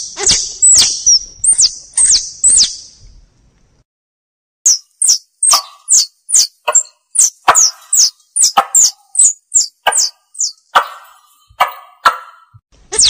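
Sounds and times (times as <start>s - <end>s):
sharp high chirps: 0.2s - 2.9s, 4.7s - 13.0s.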